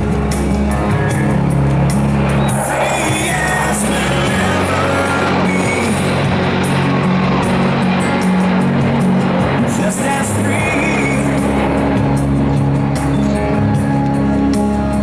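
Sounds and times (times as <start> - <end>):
rock music with sung vocal: 0.0 - 15.0.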